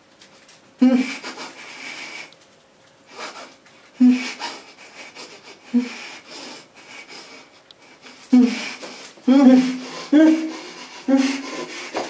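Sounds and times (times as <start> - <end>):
man breathing heavily: 0.8 - 2.3, 3.1 - 12.0.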